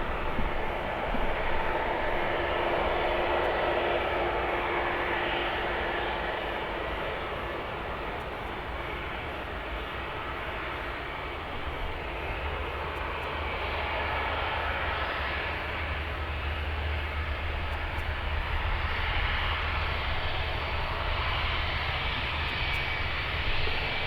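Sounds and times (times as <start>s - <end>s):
airliner engines running: 0.0s - 24.0s.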